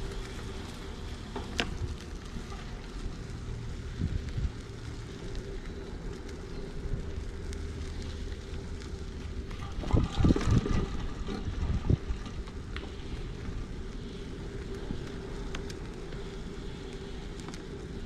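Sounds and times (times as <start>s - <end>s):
bicycle rolling over dirt: 0.0s - 18.0s
steady hum: 0.0s - 18.0s
wind rumble on microphone: 0.0s - 18.0s.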